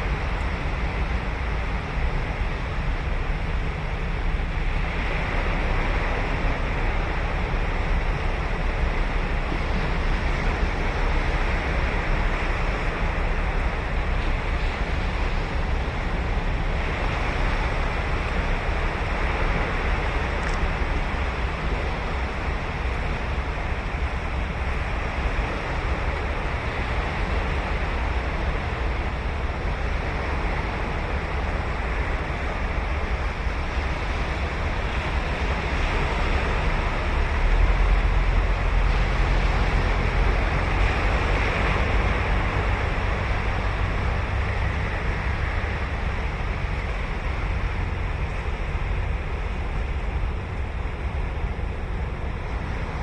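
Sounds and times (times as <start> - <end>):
ocean surf breaking on beach: 0.0 - 53.0.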